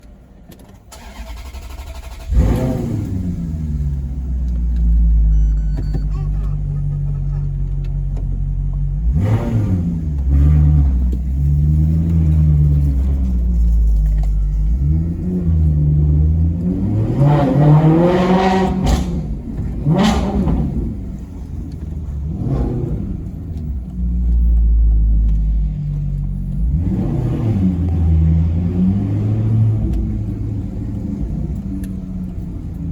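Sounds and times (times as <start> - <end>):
car engine revving: 0.6 - 32.9.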